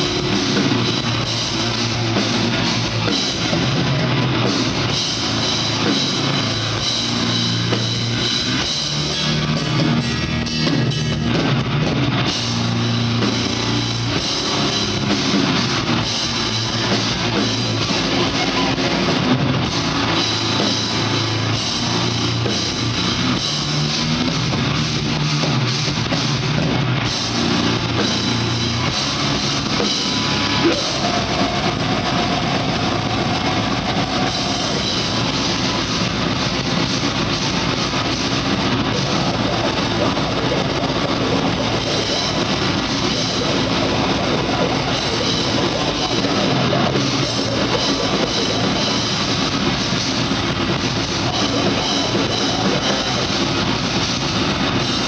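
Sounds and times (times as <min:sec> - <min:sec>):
distorted electric guitar: 0:00.0 - 0:55.0
drum kit: 0:00.0 - 0:55.0.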